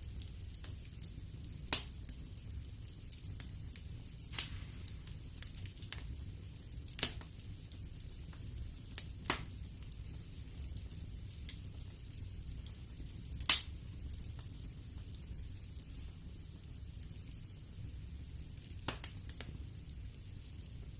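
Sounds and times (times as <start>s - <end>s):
wood fire crackling: 0.0s - 20.9s
sharp pops from fire: 0.2s - 15.2s, 18.5s - 20.8s.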